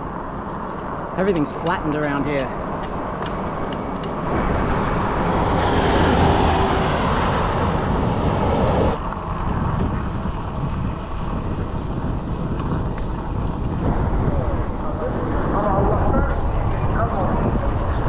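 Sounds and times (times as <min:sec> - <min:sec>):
low wind rumble: 0:00.0 - 0:18.0
road traffic passing: 0:00.0 - 0:18.0
wind on camera microphone: 0:00.0 - 0:18.0.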